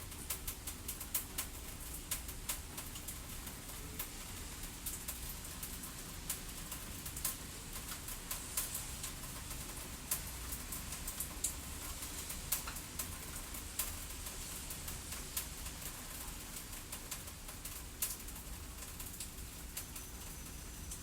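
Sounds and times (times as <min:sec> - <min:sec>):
wood fire crackling and popping: 0:00.1 - 0:20.1.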